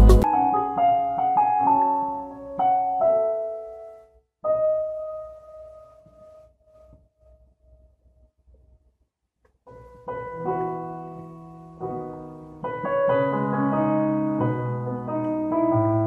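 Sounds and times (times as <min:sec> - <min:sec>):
soft piano music: 0:00.0 - 0:07.9, 0:09.7 - 0:16.0.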